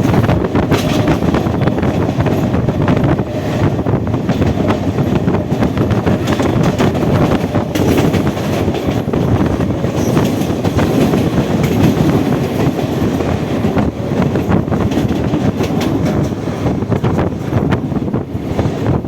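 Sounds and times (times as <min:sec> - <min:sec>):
electric train rushing: 0:00.0 - 0:19.0
wheels clicking over rail joints: 0:00.0 - 0:19.0.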